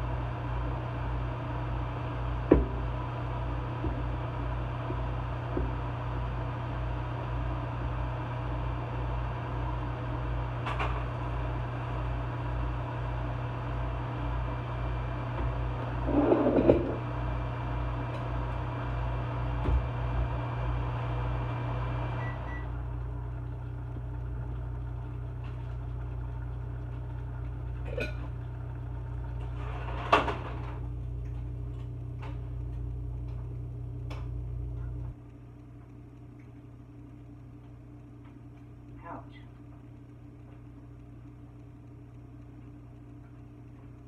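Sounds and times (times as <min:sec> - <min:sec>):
microwave vent fan hum: 0:00.0 - 0:44.0.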